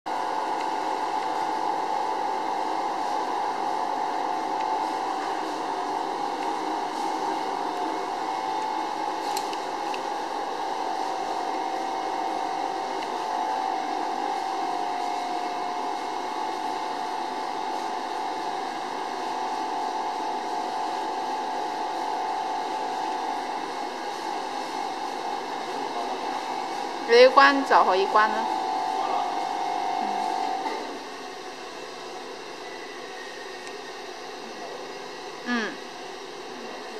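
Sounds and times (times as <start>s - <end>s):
constant machine whine: 0.1s - 36.9s
mixer motor hum: 0.1s - 36.9s.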